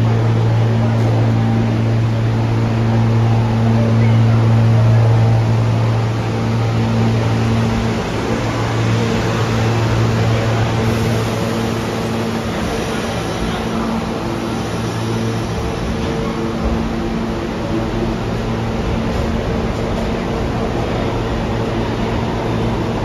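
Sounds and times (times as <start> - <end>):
subway train low hum: 0.0 - 23.0.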